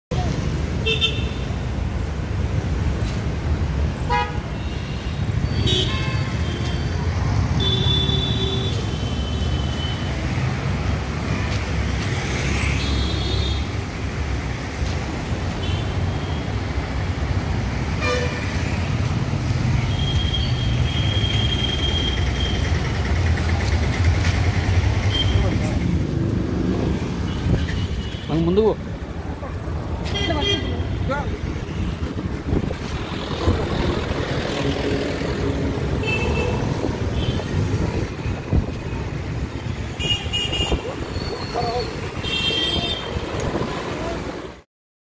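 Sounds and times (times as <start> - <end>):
traffic rumble: 0.1 - 44.6.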